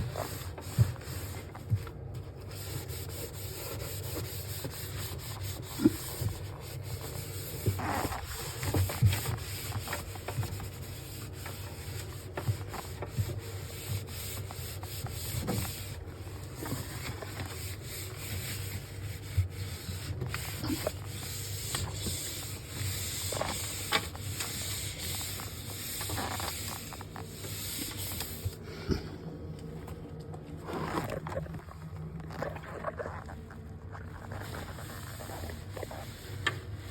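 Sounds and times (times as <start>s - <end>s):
cloth scrubbing surfaces: 0.0s - 28.7s, 30.4s - 36.9s.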